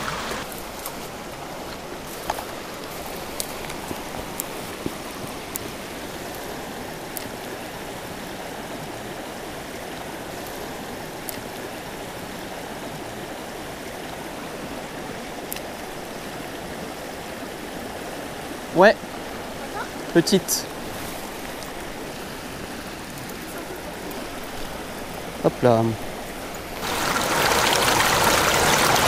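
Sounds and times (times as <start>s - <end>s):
stream rushing over stones: 0.0s - 29.0s.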